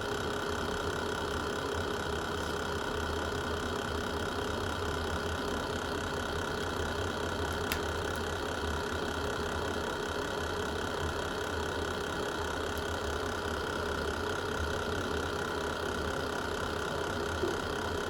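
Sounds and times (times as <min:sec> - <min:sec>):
wood fire rumbling and hissing: 0:00.0 - 0:18.0.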